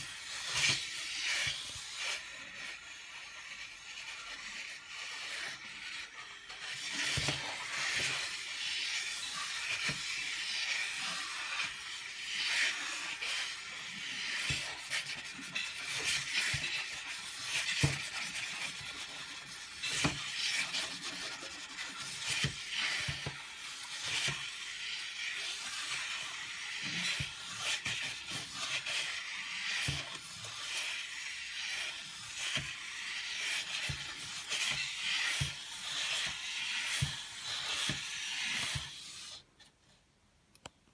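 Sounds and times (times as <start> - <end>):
drawing sticks scratching on paper: 0.0 - 39.5.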